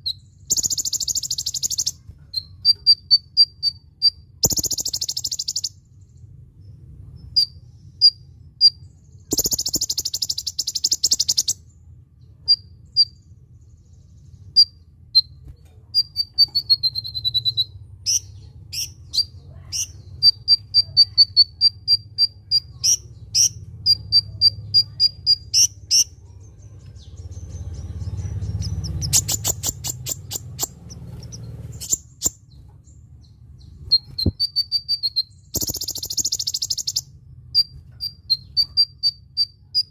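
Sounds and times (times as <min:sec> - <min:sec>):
sunbird chirps and whistles: 0:00.0 - 0:11.7, 0:12.4 - 0:13.3, 0:14.3 - 0:26.2, 0:27.0 - 0:32.6, 0:33.2 - 0:39.9.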